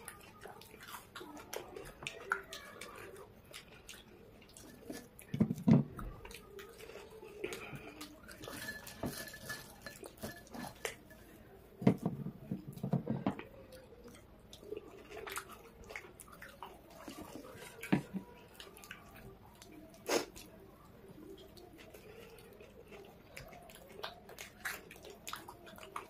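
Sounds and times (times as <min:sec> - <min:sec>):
chewing and lip smacks: 0:00.0 - 0:08.7, 0:13.4 - 0:26.0.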